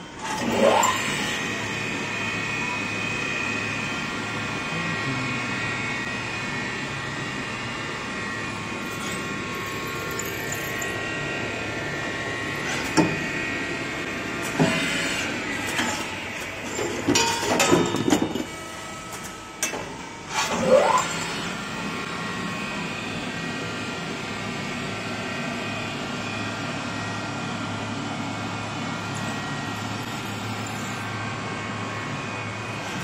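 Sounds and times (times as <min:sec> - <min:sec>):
machine hum with whining tones: 0:00.0 - 0:33.0.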